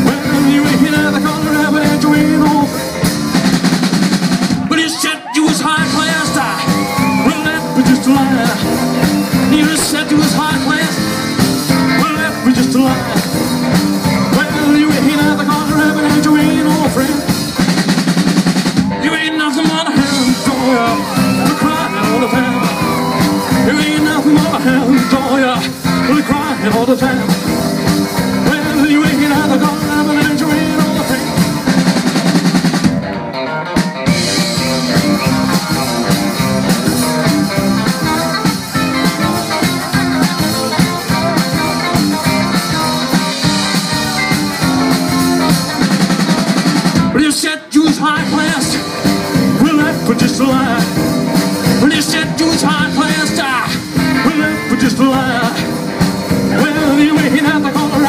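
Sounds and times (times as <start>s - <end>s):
live rock and roll band playing: 0.0s - 58.0s.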